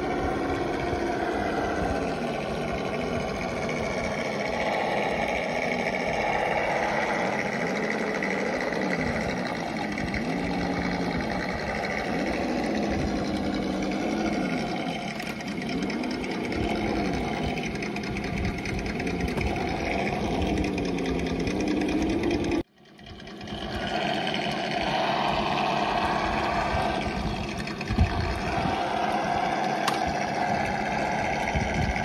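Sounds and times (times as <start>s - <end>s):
simulated engine sound: 0.0s - 32.0s.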